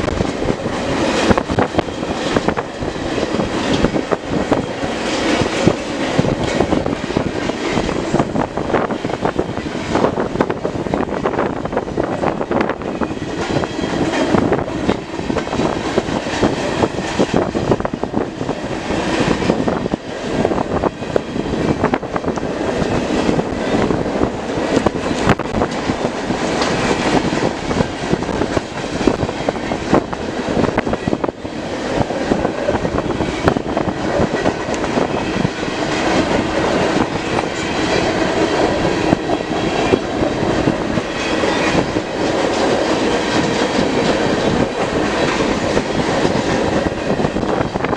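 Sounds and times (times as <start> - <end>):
freight train cars rumbling: 0.0 - 47.9.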